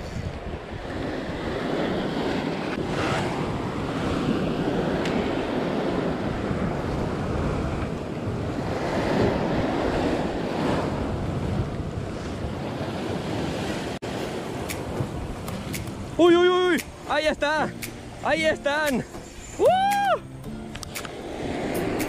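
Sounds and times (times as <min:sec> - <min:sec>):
sea waves breaking on rocks: 0:00.4 - 0:22.0.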